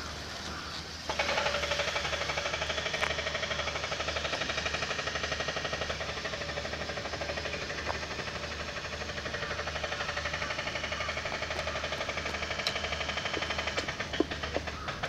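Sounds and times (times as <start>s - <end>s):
small motor throbbing: 0.0s - 15.0s
sharp clicks: 1.1s - 15.0s.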